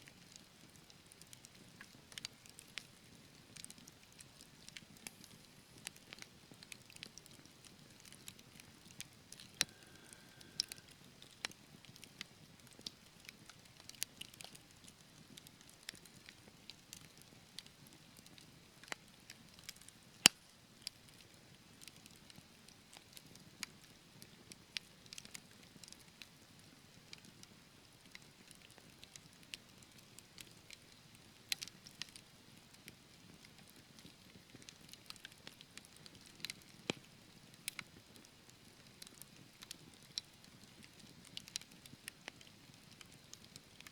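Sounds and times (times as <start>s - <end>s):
fire crackling in a fireplace: 0.0s - 43.9s.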